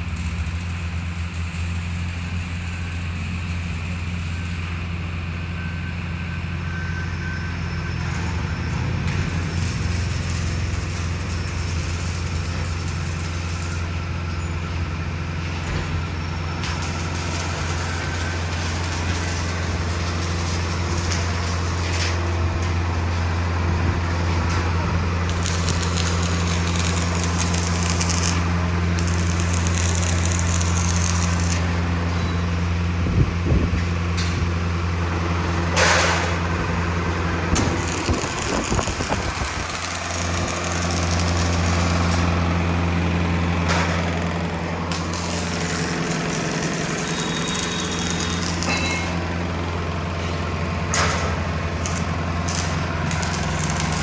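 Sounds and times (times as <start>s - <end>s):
engine humming: 8.0s - 54.0s.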